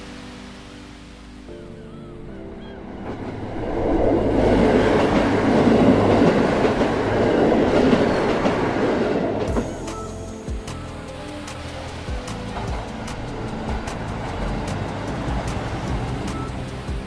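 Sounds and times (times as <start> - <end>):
train passing: 1.8 - 17.0.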